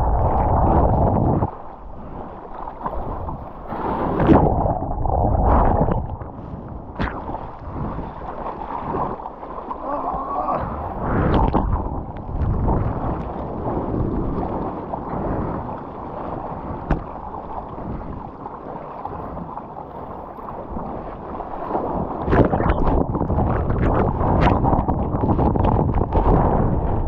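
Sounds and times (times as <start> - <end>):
wind buffeting microphone: 0.0 - 9.3, 10.0 - 27.0
water splashing against surfboard: 0.0 - 27.0.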